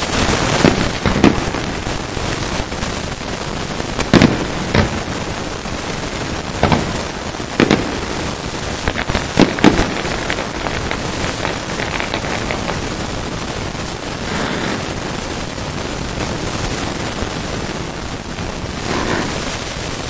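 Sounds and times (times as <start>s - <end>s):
fireworks bangs: 0.0s - 20.0s
fireworks crackling: 0.0s - 20.0s
steady hiss: 0.0s - 20.0s.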